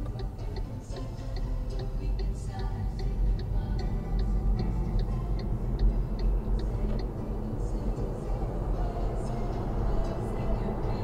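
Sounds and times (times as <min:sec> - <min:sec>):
road and engine rumble in car: 0:00.0 - 0:11.0
turn indicator ticking: 0:00.0 - 0:11.0.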